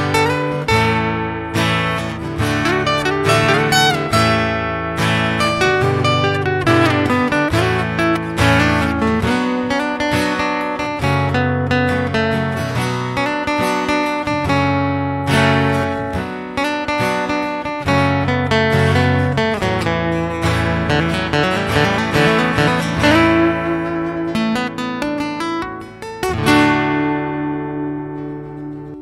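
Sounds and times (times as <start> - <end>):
acoustic guitar plucked melody: 0.0 - 29.0.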